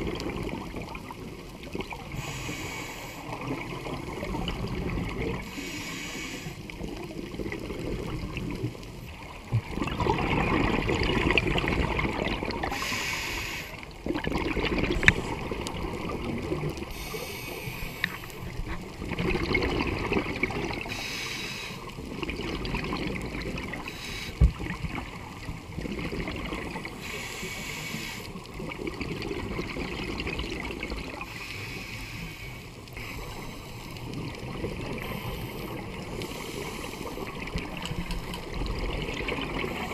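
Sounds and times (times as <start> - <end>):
regulator bubbles underwater: 0.0 - 39.9
water rushing: 0.0 - 39.9.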